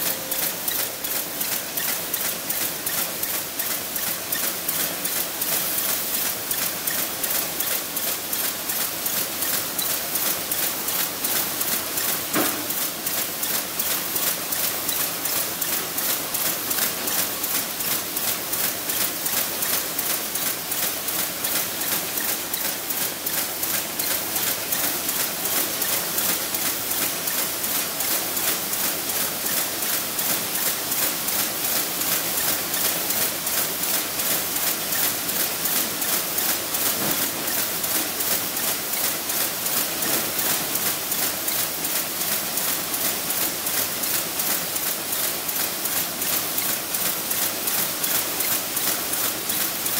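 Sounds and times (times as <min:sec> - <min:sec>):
machine clattering clicks: 0:00.0 - 0:49.9
machine whir: 0:00.0 - 0:49.9.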